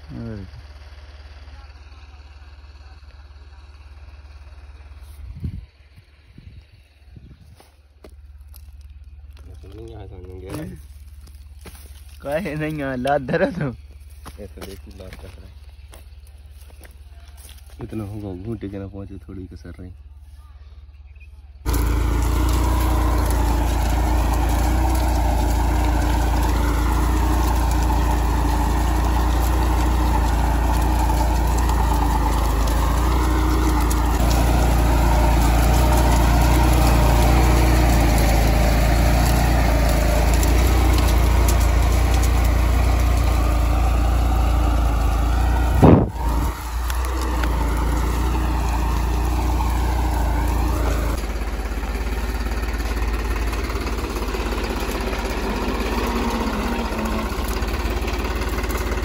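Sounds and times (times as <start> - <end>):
tractor diesel engine under load: 0.0 - 20.0, 21.5 - 59.0.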